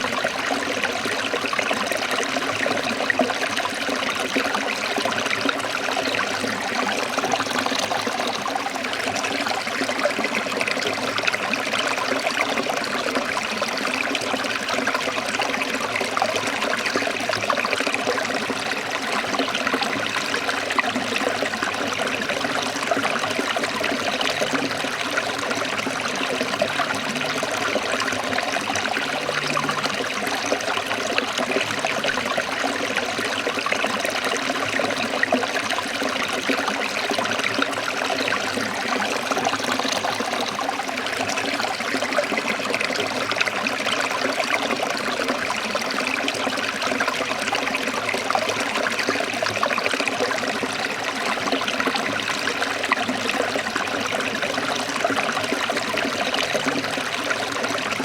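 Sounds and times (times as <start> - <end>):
stream water trickling over rocks: 0.0 - 58.0.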